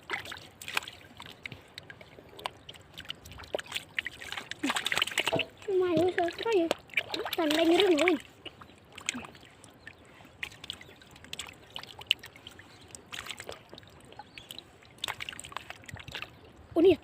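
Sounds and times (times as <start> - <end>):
splashing of shallow water: 0.0 - 16.5.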